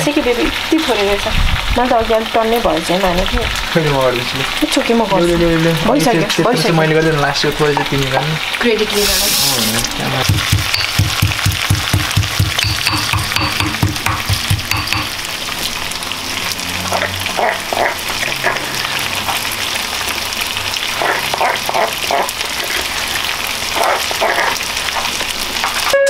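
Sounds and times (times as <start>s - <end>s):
chicken wings sizzling in pan: 0.0s - 26.0s.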